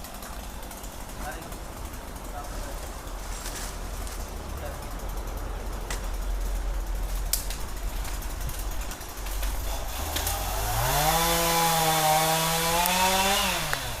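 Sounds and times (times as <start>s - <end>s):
chainsaw idling and revving: 0.0s - 14.0s.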